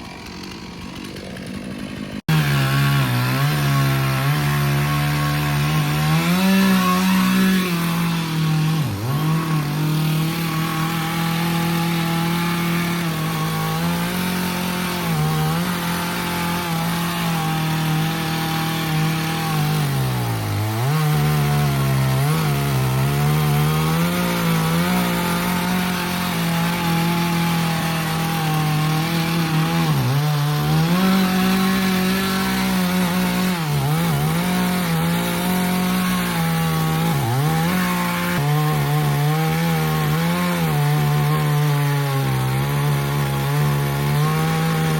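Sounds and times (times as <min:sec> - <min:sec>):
chainsaw cutting at full throttle: 0:00.0 - 0:44.9.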